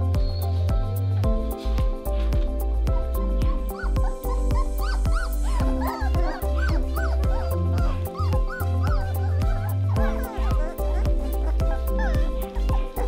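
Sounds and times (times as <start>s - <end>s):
background music with steady beat: 0.0s - 13.0s
puppies whimpering and yipping: 0.0s - 13.0s.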